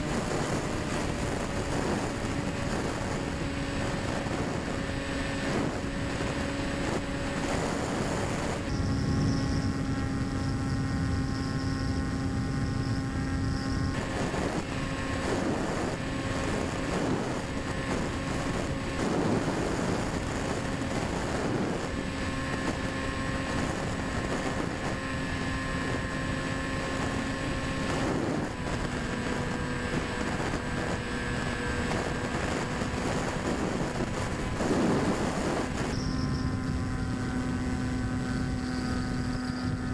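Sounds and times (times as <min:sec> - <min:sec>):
electric motor and propeller droning: 0:00.0 - 0:39.9
wind rushing over microphone: 0:00.0 - 0:39.9.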